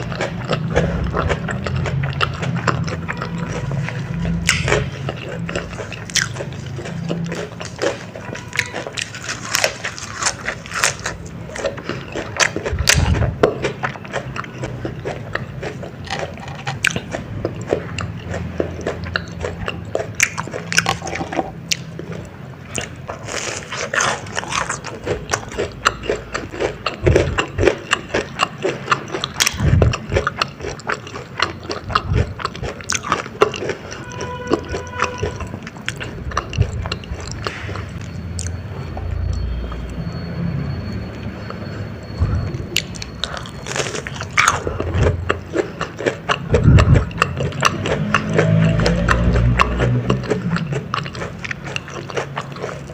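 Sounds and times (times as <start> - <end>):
biting and chewing: 0.0 - 52.9.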